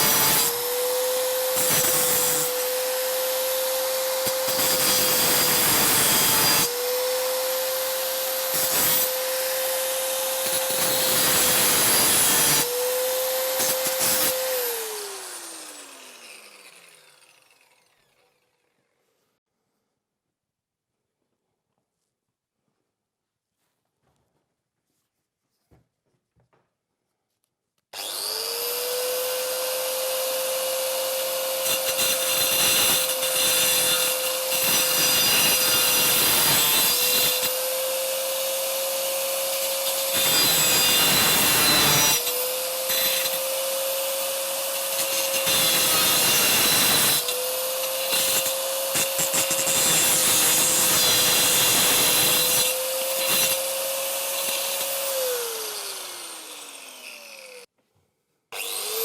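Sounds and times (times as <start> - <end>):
angle grinder grinding metal: 0.0 - 18.2, 28.0 - 57.7, 58.6 - 59.0.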